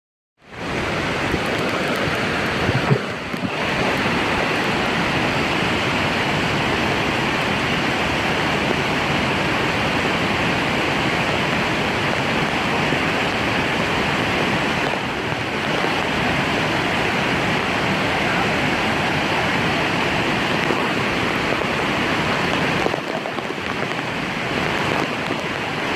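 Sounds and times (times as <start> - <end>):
stream rushing in heavy rain: 0.4 - 25.9.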